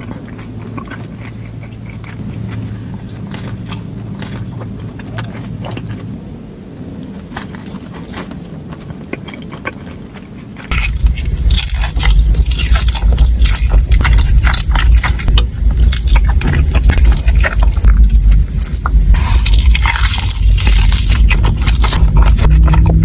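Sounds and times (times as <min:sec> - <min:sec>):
person chewing food: 0:00.0 - 0:06.2, 0:07.0 - 0:23.0.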